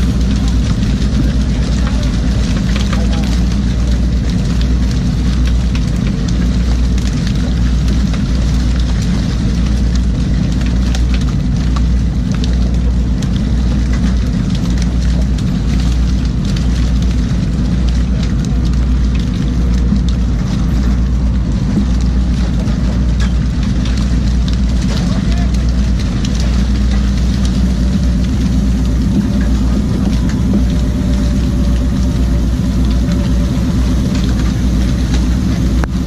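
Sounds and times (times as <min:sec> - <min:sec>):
boat engine throbbing: 0:00.0 - 0:36.0.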